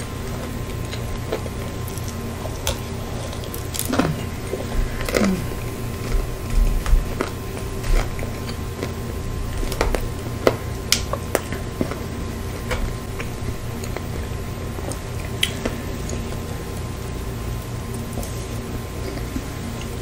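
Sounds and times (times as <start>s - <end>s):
steady low hum: 0.0s - 20.0s
wet squishy eating sounds: 0.0s - 20.0s.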